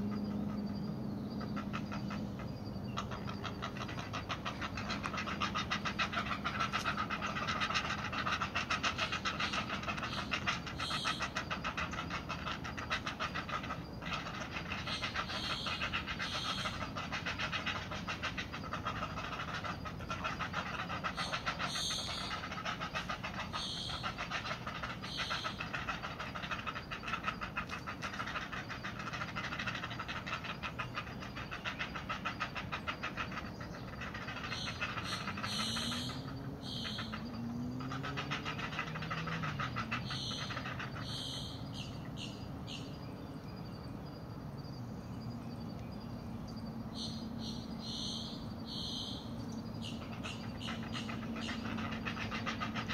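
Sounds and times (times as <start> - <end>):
heron chicks ticking chatter: 0.0 - 44.1, 45.3 - 52.9
harsh bird calls: 0.0 - 52.9.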